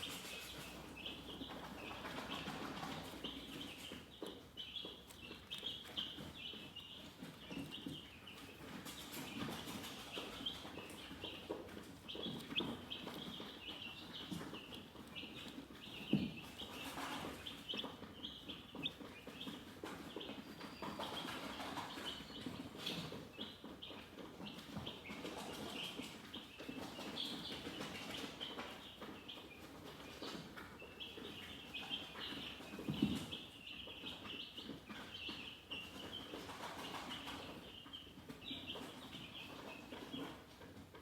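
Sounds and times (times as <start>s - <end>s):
chickens clucking: 0.0s - 41.0s
chicks peeping: 0.0s - 41.0s.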